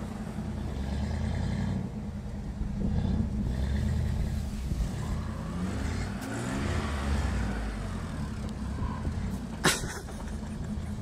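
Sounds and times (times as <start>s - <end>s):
vehicle engines revving under load: 0.0s - 11.0s.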